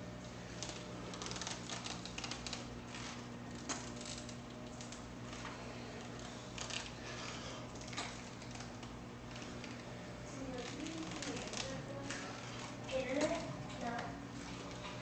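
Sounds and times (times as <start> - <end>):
clicks and crackles of cloth wrap: 0.4 - 15.0.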